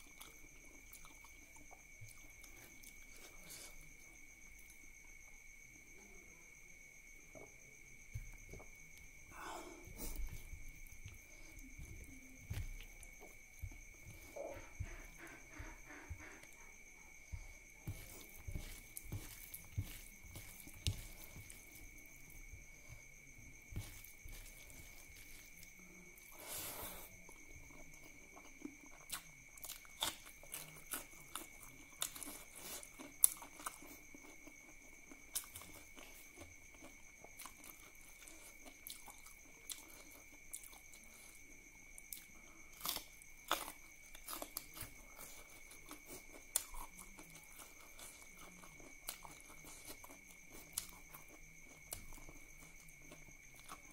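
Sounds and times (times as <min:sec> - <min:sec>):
chewing and wet smacks: 0:00.0 - 0:04.0, 0:09.9 - 0:41.4, 0:42.0 - 0:53.9.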